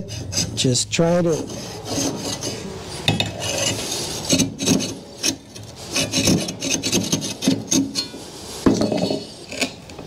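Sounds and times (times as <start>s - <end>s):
hacksaw rasping through shaft: 0.0s - 0.7s, 1.3s - 9.9s.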